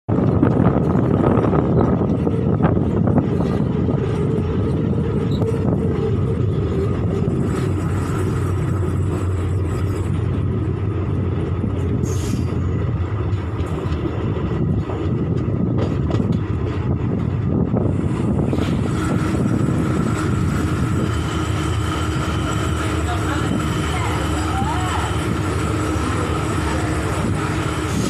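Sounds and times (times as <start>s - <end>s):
train coach rumbling on track: 0.0s - 28.0s.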